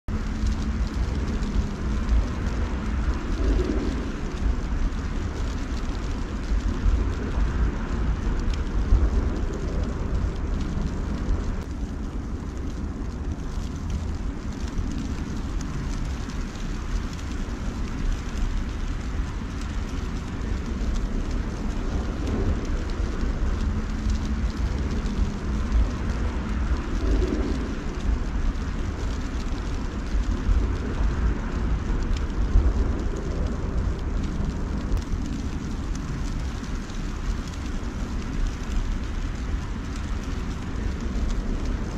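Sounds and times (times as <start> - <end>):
low rumble: 0.0 - 41.9
faint ticks: 0.2 - 41.9.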